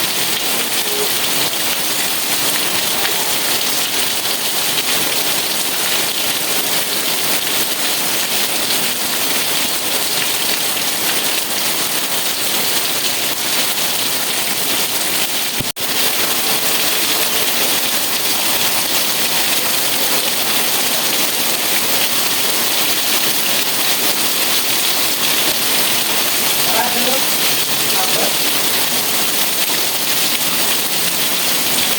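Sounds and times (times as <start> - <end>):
heavy rain: 0.0 - 31.9.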